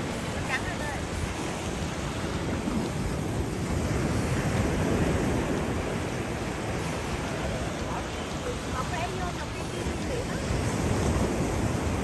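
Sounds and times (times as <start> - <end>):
surf washing over sand: 0.0 - 12.0.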